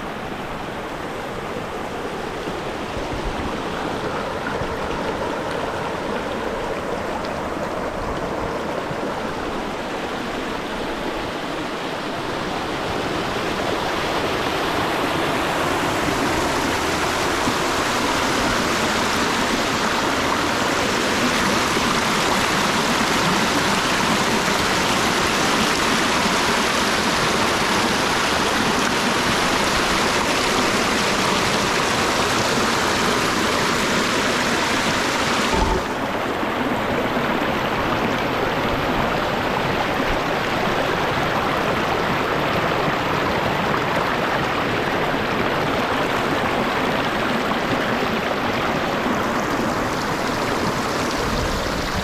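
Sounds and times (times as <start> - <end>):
stream and waterfall rushing: 0.0 - 52.0.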